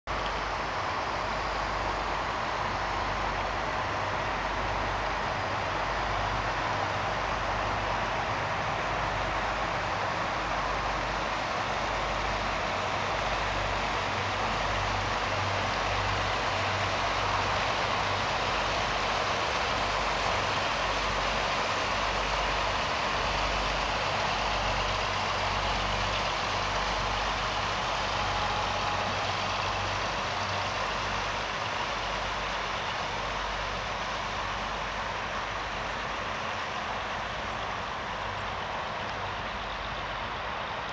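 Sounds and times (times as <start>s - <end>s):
continuous rushing noise: 0.1s - 40.9s
diesel engine rumbling: 0.1s - 40.9s.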